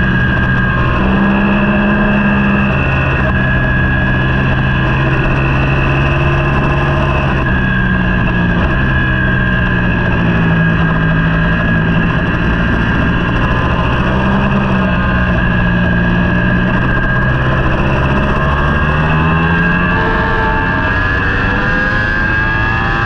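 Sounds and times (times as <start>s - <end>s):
superbike engine at high revs: 0.0s - 23.0s.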